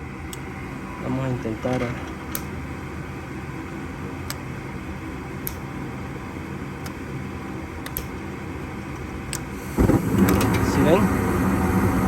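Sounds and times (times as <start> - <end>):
furnace fan running: 0.0 - 12.0.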